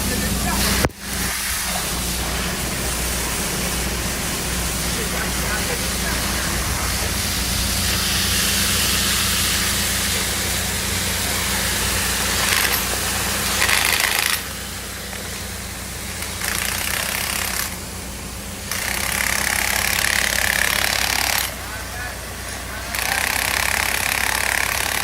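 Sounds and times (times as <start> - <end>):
low mechanical hum: 0.0 - 25.0
pressurised water spraying: 0.0 - 25.0.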